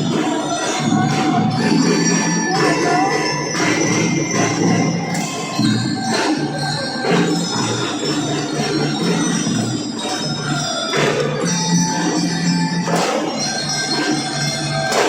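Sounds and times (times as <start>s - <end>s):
drum strokes: 0.0s - 15.0s
metal bell melody: 0.0s - 15.0s.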